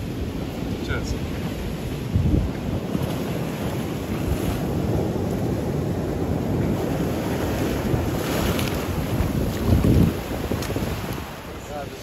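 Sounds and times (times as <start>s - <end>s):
surf washing over rocks: 0.0s - 12.0s
wind buffeting microphone: 0.0s - 12.0s.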